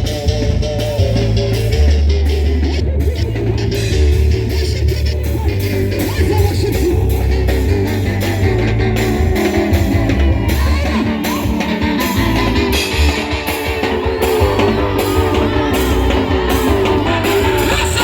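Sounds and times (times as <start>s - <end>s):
guitar: 0.0s - 18.0s
heavy bass line: 0.0s - 18.0s
loud band music: 0.0s - 18.0s
steady drum beat: 0.0s - 18.0s.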